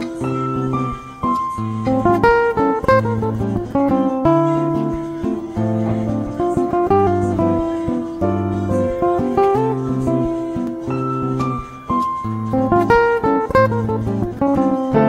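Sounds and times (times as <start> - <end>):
acoustic guitar tune: 0.0 - 15.0.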